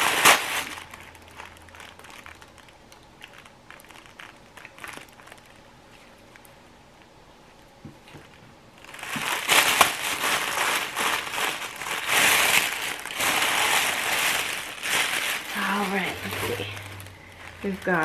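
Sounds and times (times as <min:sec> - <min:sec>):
tissue paper crinkling and rustling: 0:00.0 - 0:06.2, 0:08.8 - 0:18.0.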